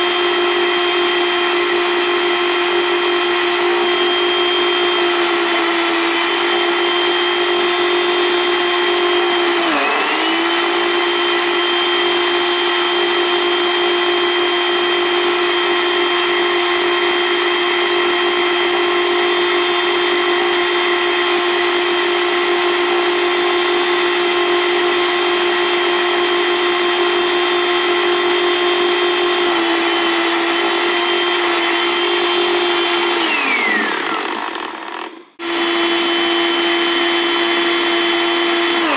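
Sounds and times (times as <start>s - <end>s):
blender motor whining: 0.0s - 38.9s.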